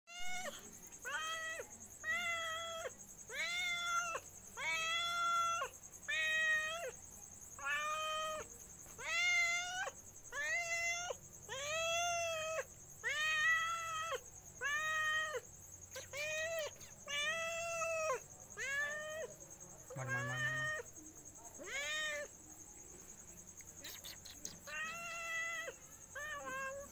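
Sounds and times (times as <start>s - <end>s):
cat meowing: 0.1s - 7.0s, 7.6s - 19.3s, 19.9s - 20.9s, 21.6s - 22.3s, 23.8s - 26.9s.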